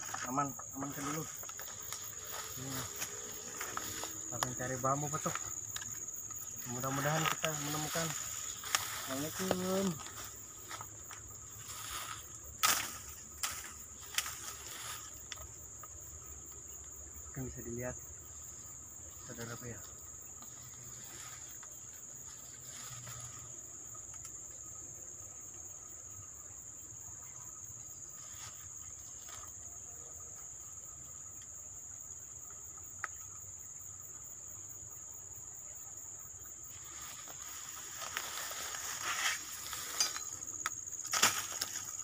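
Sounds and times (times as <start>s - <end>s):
rustling of leaves and undergrowth: 0.0s - 24.8s, 27.6s - 30.8s, 36.0s - 42.0s
insects chirring: 0.0s - 42.0s.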